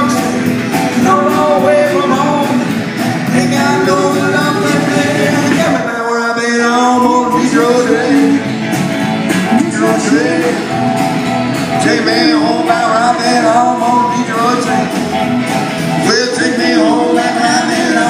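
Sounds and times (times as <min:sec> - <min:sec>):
person singing: 0:00.0 - 0:08.6, 0:09.3 - 0:18.0
country-rock band playing: 0:00.0 - 0:18.0
electric guitar: 0:00.0 - 0:18.0
strummed acoustic guitar: 0:00.0 - 0:18.0
upright bass: 0:00.0 - 0:18.0.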